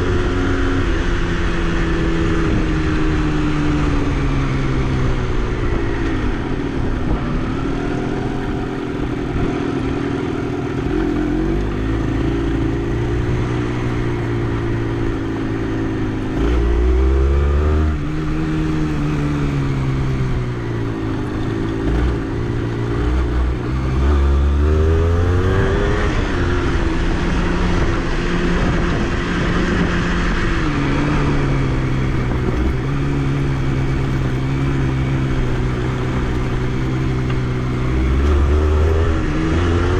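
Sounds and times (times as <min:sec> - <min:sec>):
dirt bike engine revving: 0:07.0 - 0:39.9.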